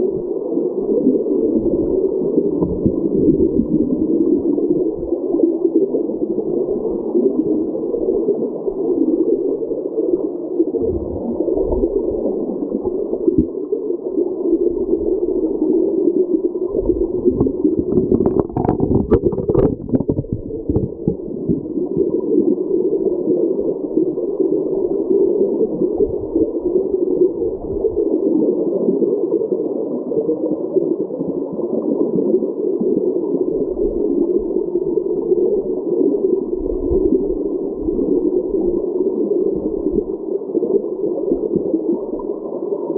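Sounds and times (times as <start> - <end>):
muffled underwater creek rush: 0.0 - 42.9.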